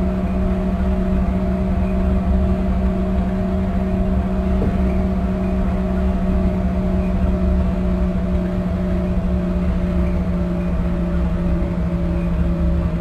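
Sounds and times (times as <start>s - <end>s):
electrical hum: 0.0s - 13.0s
train rumble: 0.0s - 13.0s.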